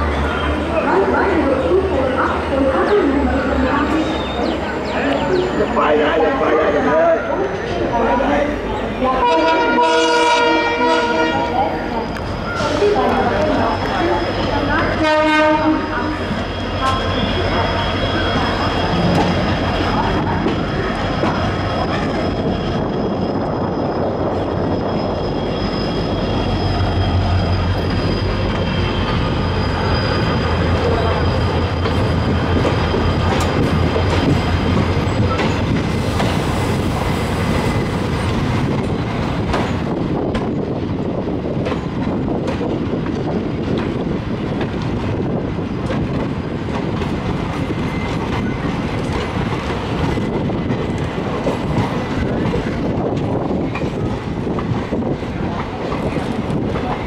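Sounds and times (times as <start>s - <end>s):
trains rumbling: 0.0s - 57.0s.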